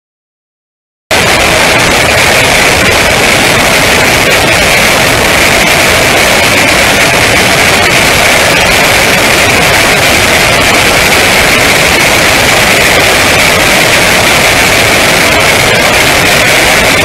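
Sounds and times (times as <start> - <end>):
road noise: 1.1 - 17.0
wind rushing: 1.1 - 17.0.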